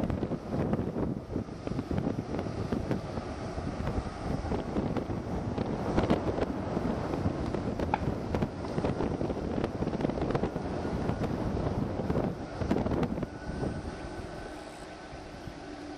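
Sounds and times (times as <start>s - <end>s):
distant jet engines roaring: 0.0s - 15.9s
wind buffeting microphone: 0.0s - 15.9s.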